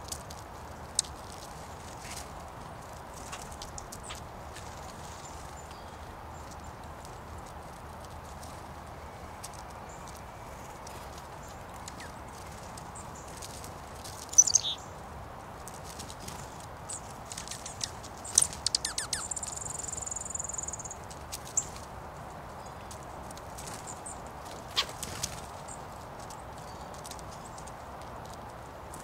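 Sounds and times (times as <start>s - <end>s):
steady faint hiss: 0.0s - 29.0s
songbird chirping: 0.7s - 28.4s.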